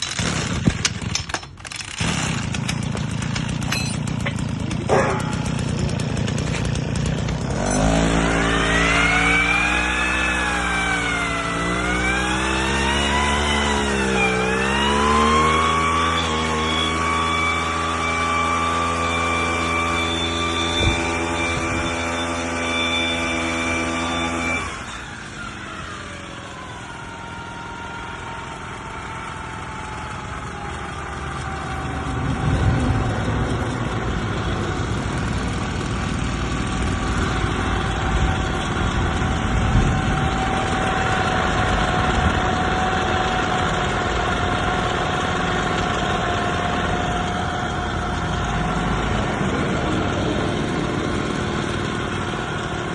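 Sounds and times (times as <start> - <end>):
brush cutter engine running: 0.0 - 52.9.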